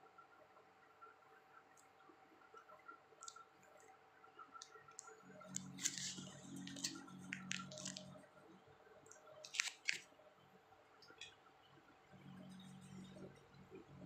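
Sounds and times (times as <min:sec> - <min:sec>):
low hum: 0:01.9 - 0:14.0.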